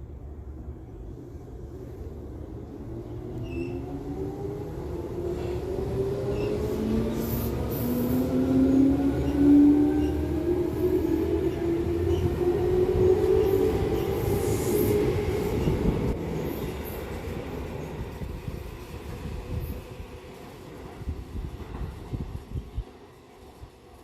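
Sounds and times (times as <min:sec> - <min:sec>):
wheels rumbling on rail: 0:00.9 - 0:23.7.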